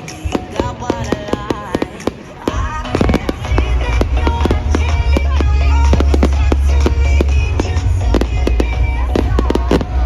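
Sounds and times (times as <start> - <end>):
fireworks cracking and banging: 0.0 - 10.0
music with gliding notes: 0.0 - 10.0.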